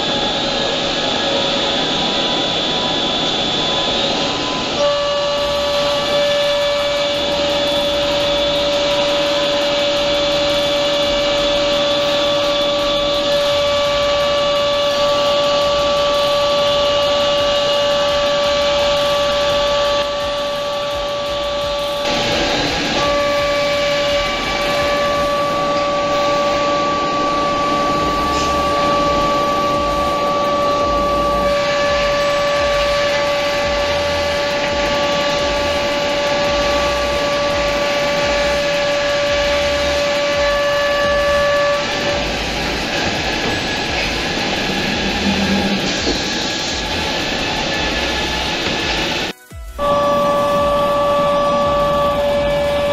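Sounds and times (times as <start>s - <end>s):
drilling machine whining: 0.0s - 52.9s.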